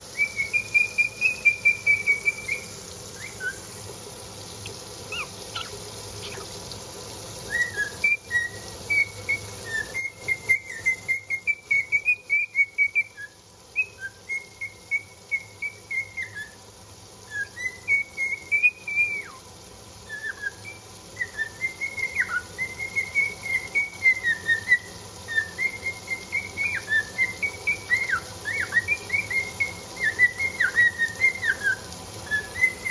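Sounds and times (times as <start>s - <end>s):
cockatiel whistling: 0.0s - 16.6s, 17.3s - 32.9s.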